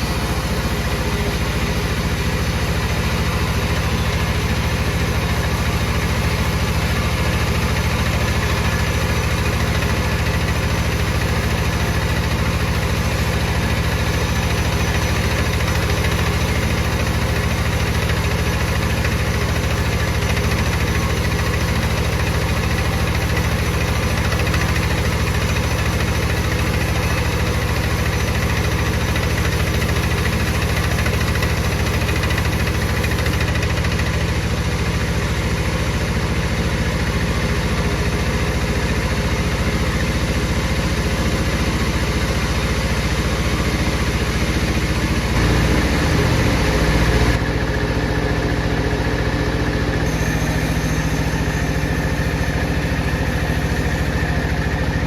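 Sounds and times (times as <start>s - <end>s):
saw machine humming: 0.0s - 34.4s, 38.4s - 55.0s.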